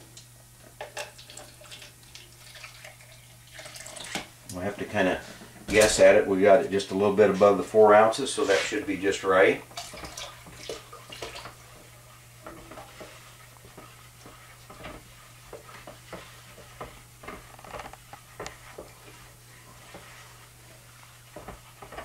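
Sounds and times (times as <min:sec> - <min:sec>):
stir stick scraping plastic bucket: 0:04.0 - 0:22.0
steady low hum: 0:04.3 - 0:22.0.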